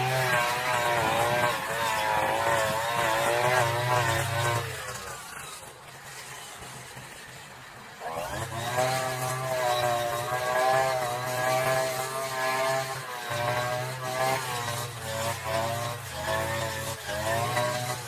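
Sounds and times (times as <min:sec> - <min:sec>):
brush cutter engine revving: 0:00.0 - 0:18.0.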